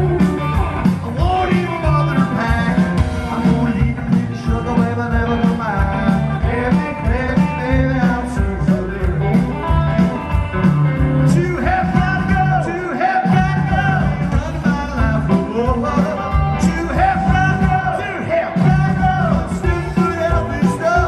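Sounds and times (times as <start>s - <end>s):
person singing lead vocal: 0.0s - 10.2s, 11.2s - 21.0s
upright double bass: 0.0s - 18.0s, 18.6s - 21.0s
electric guitar: 0.0s - 21.0s
rockabilly band playing: 0.0s - 21.0s.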